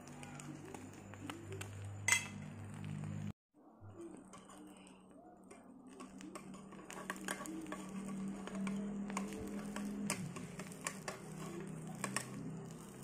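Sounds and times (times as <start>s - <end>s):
bread frying in oil: 0.0s - 3.4s, 4.2s - 13.0s
crackling and popping oil: 0.0s - 3.4s, 4.1s - 13.0s.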